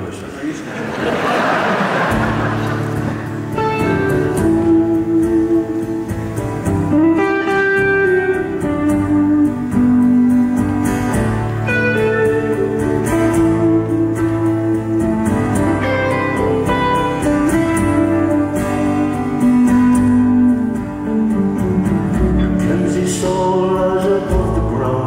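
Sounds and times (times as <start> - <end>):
amplified acoustic guitar playing: 1.2 - 25.0.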